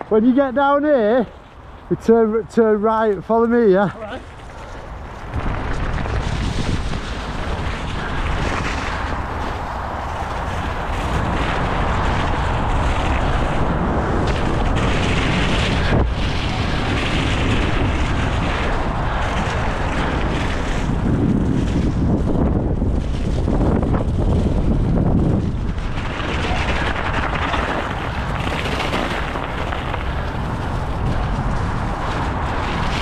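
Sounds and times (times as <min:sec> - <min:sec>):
bike tyres rushing over leaves: 0:00.0 - 0:33.0
wind buffeting microphone: 0:00.0 - 0:33.0.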